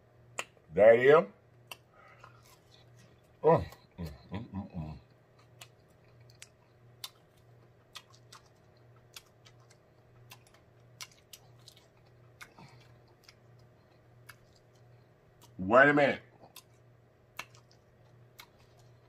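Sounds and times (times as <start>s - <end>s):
low steady hum: 0.0s - 19.0s
person chewing food: 1.5s - 15.6s, 16.3s - 19.0s.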